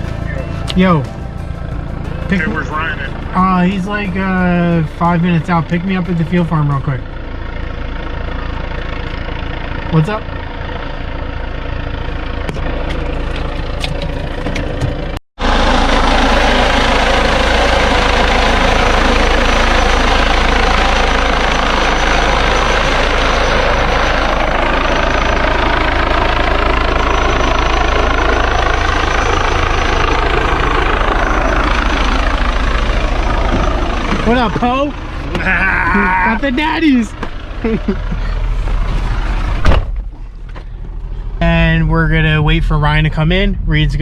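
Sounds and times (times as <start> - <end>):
engine running: 0.0 - 44.0.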